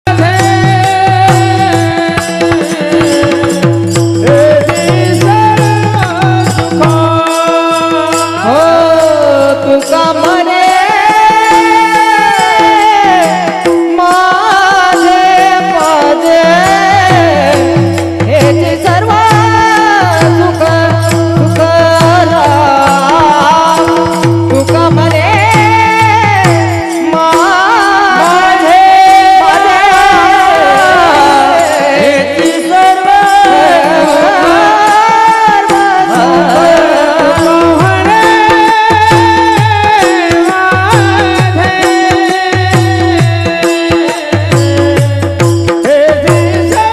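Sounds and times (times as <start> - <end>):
person singing devotional song: 0.0 - 46.9
instrumental accompaniment: 0.1 - 46.9
tabla strokes: 0.1 - 46.9.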